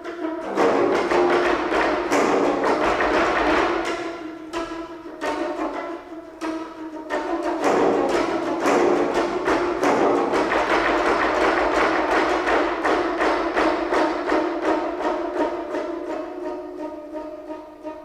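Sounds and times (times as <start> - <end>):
zithers plucked rapidly: 0.0 - 17.6.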